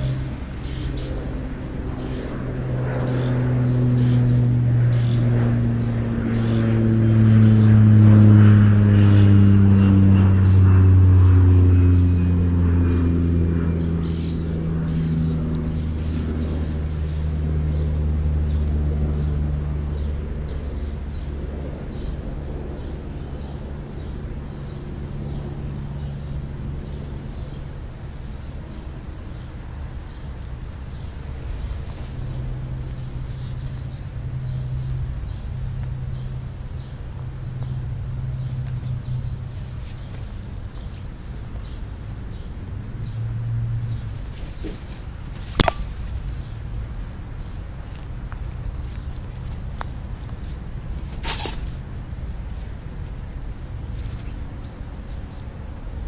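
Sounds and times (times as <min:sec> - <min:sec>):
vehicle passing by: 0:00.0 - 0:56.0.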